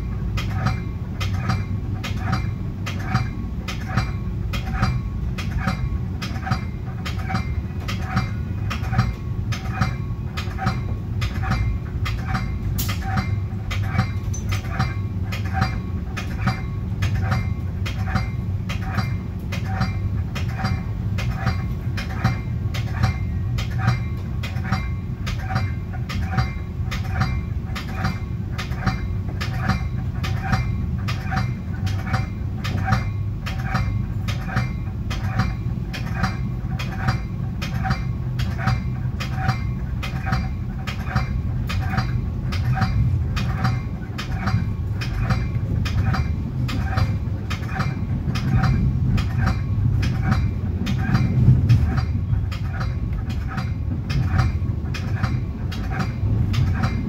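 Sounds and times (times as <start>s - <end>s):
sharp rail clicks: 0.0s - 57.0s
train rumbling: 0.0s - 57.0s.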